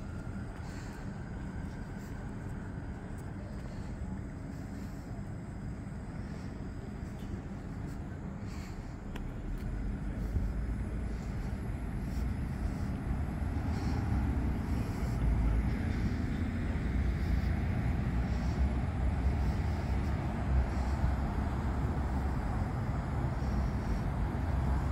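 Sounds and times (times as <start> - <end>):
faint street ambience: 0.0 - 24.9.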